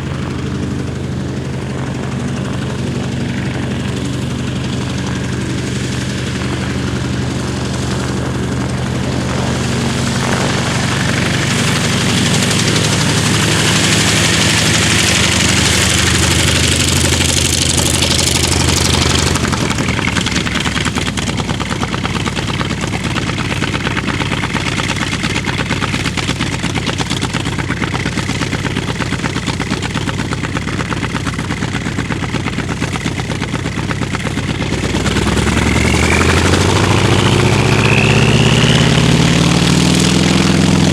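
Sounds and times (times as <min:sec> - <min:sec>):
propeller plane flyby: 0:00.0 - 0:40.9.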